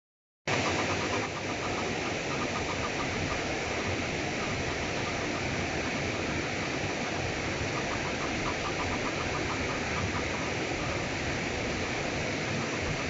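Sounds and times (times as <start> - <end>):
river water rushing over weir: 0.5 - 13.0.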